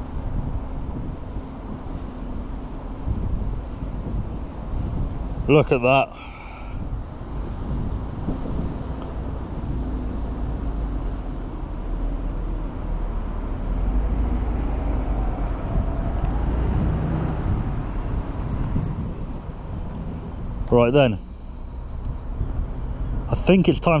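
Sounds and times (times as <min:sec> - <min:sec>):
road traffic: 0:00.0 - 0:24.0
wind buffeting microphone: 0:00.0 - 0:24.0.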